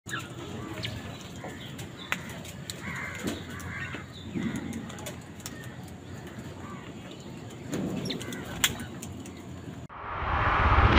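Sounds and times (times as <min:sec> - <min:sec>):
beaks pecking plastic bowl: 0:00.1 - 0:09.5.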